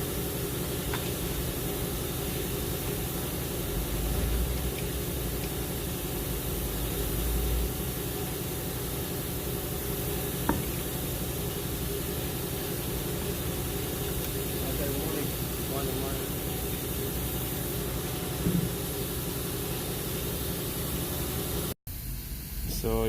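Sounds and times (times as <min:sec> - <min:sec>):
steady hissing: 0:00.0 - 0:23.0.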